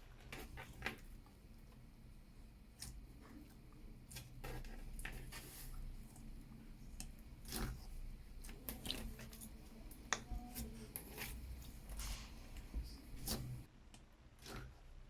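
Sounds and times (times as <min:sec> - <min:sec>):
slime squelching: 0:00.0 - 0:13.7.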